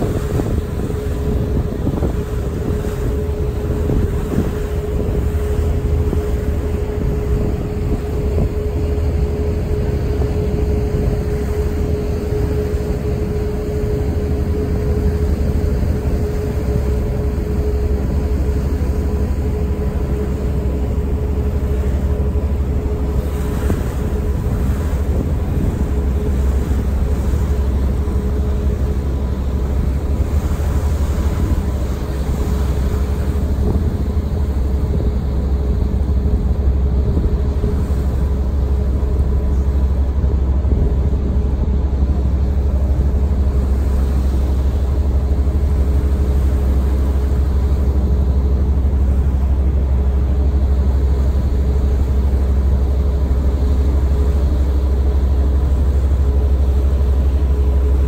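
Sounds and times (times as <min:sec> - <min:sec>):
ship engines rumbling: 0:00.0 - 0:58.0
wind noise on microphone: 0:00.0 - 0:58.0.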